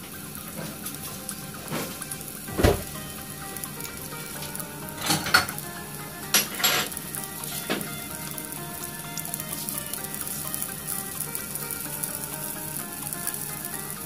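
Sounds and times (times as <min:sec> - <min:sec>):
garlic sizzling in oil: 0:00.0 - 0:14.0
oil popping: 0:00.0 - 0:14.0.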